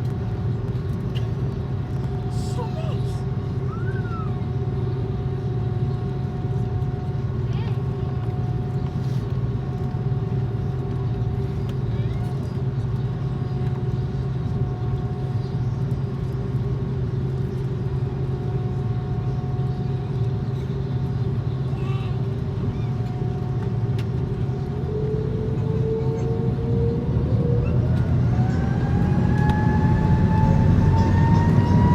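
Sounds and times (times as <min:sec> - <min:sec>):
jet engines droning and whining: 0:00.0 - 0:31.9.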